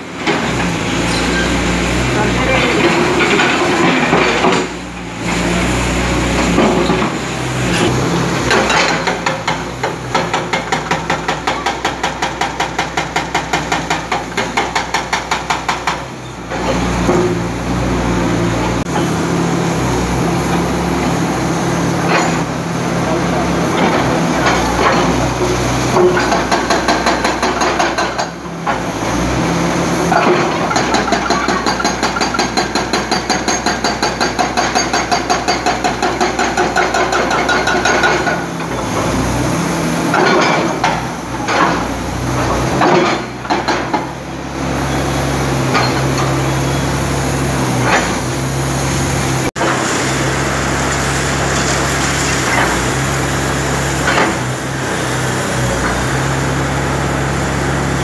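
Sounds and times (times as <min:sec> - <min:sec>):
diesel engine running: 0:00.0 - 0:11.3, 0:16.0 - 0:31.9, 0:37.3 - 0:58.0
hydraulic breaker hammering concrete: 0:02.1 - 0:17.4, 0:22.0 - 0:44.6, 0:45.3 - 0:58.0.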